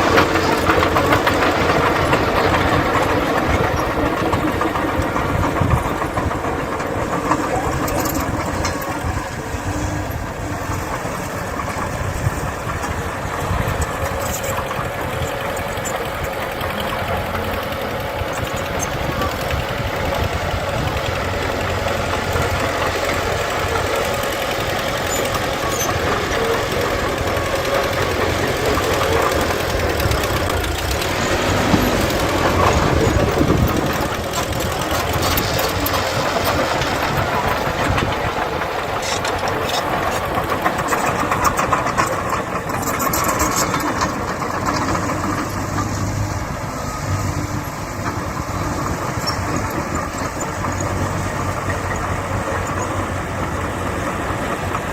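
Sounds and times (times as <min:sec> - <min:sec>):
clanking rattles: 0:00.0 - 0:53.6
heavy diesel machines running: 0:00.0 - 0:54.9.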